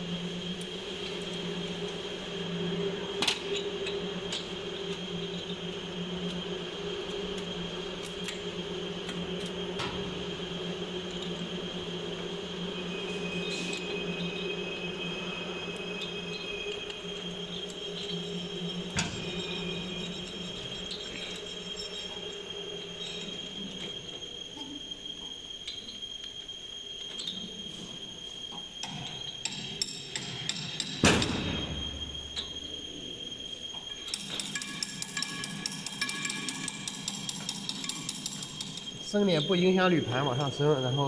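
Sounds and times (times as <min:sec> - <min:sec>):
high-pitched whine: 0:00.0 - 0:41.0.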